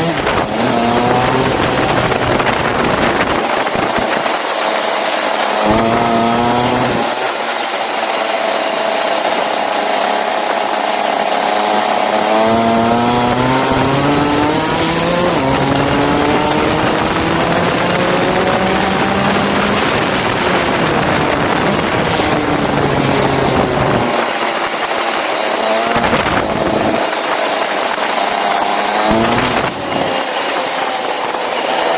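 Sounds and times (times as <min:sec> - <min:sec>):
go-kart engine revving: 0:00.0 - 0:31.9.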